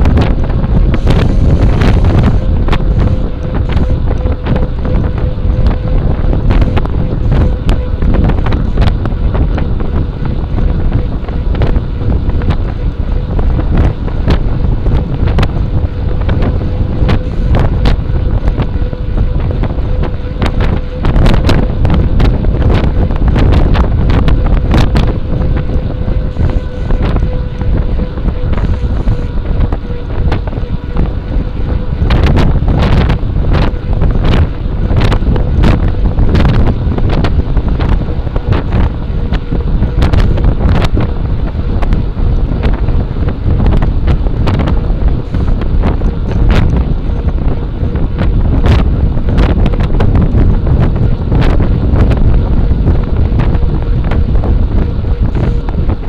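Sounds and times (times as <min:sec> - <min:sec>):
faint steady hum: 0:00.0 - 0:56.0
wind buffeting microphone: 0:00.0 - 0:56.0.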